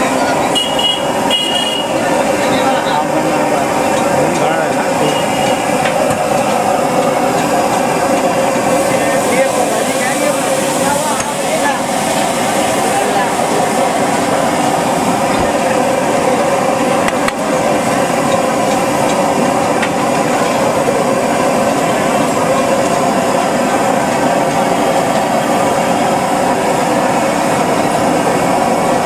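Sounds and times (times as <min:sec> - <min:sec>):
liquid bubbling on a griddle: 0:00.1 - 0:29.0.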